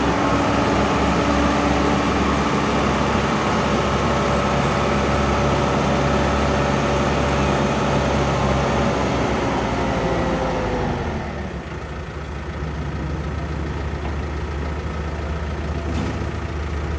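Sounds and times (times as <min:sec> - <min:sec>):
tractor diesel engine whining: 0:00.0 - 0:16.9.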